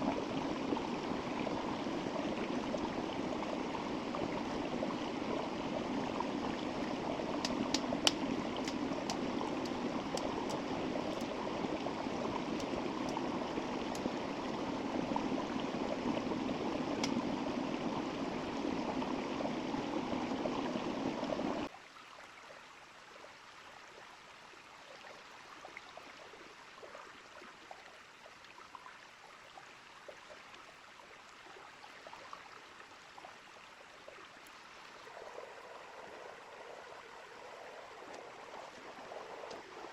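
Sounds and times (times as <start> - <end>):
small river flowing: 0.0 - 39.9.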